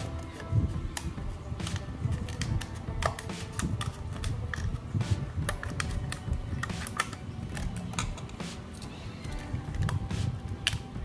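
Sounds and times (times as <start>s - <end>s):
background music: 0.0s - 11.0s
scissors cutting plastic bottle: 0.1s - 4.8s, 5.4s - 10.9s.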